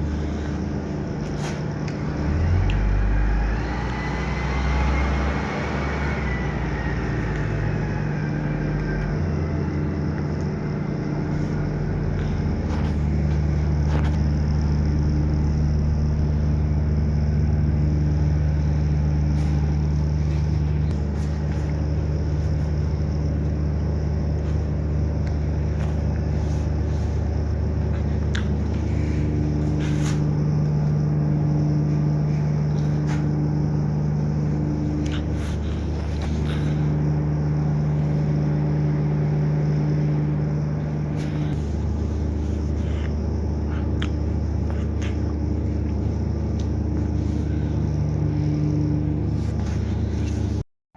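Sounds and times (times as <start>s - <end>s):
vehicle engine droning: 0.0s - 50.6s.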